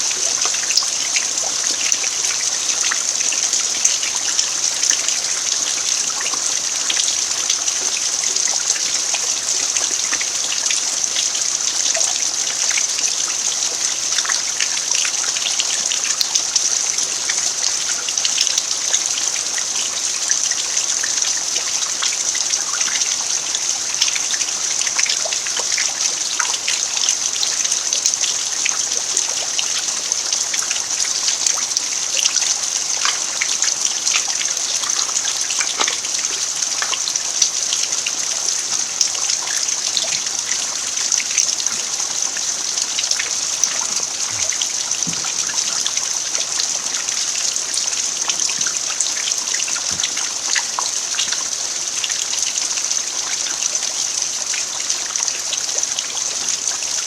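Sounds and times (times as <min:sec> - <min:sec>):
rain falling on dirt: 0:00.0 - 0:57.0.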